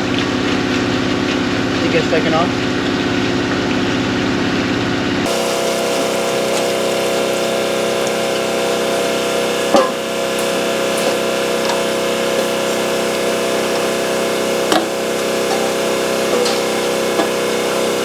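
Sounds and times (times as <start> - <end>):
machine hum with steady tones: 0.0 - 18.0.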